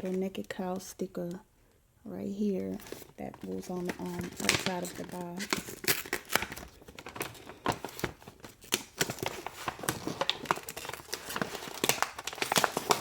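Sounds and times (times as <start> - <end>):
packaging crinkling and rustling: 2.4 - 13.0.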